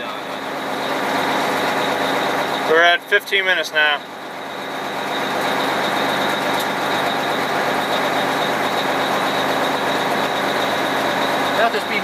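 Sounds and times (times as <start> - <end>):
fire engine running: 0.0 - 12.0.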